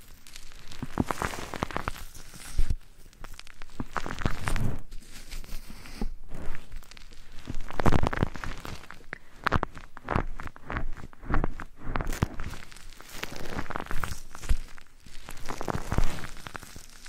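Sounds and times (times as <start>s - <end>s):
scratching and rustling strokes: 0.0s - 17.0s.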